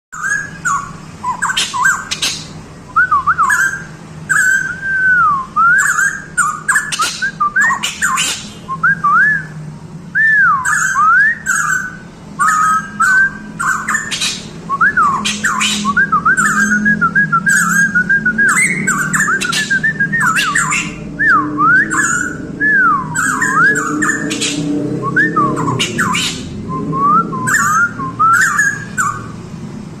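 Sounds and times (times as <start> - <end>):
bird singing whistled phrases: 0.2 - 29.4
steady low hum: 0.2 - 30.0.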